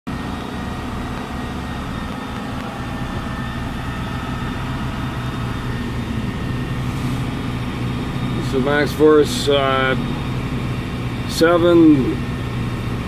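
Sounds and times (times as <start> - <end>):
diesel bus engine running: 0.1 - 13.0.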